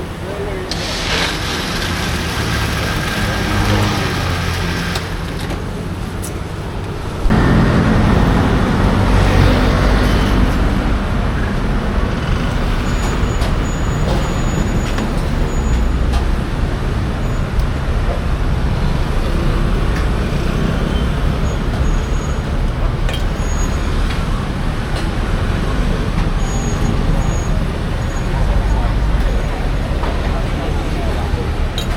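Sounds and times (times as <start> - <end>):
vehicles passing with low rumble: 0.0 - 31.9.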